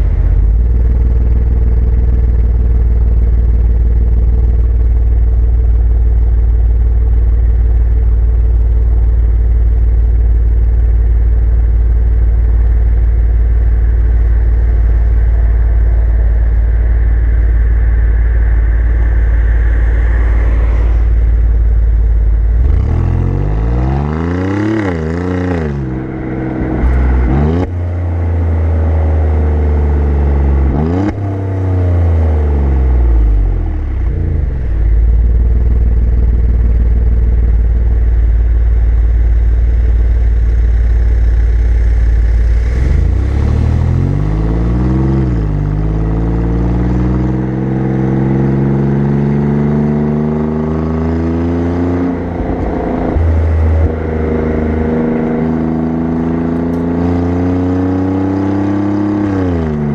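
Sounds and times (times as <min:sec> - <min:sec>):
car exhaust revving: 0:00.0 - 0:59.9.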